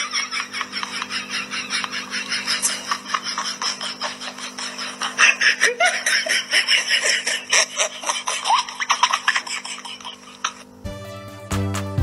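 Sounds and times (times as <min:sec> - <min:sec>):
person giggling: 0:00.0 - 0:10.7.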